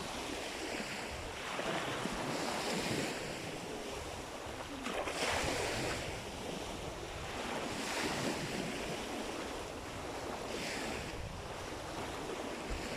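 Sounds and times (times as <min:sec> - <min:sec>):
sea waves breaking: 0:00.0 - 0:12.9
wind rumbling on microphone: 0:00.0 - 0:12.9.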